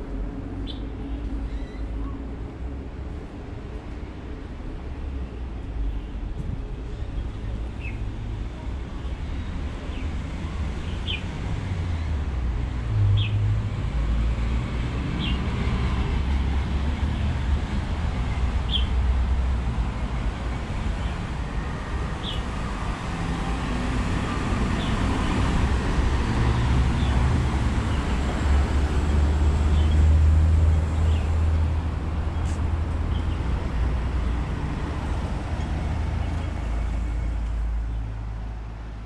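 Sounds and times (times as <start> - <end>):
road vehicles passing: 0.0 - 39.0.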